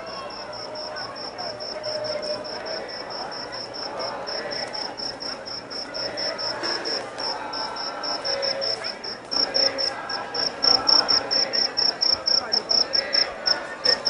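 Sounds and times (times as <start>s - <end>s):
low background murmur: 0.0s - 14.0s
cricket chirping: 0.1s - 14.0s.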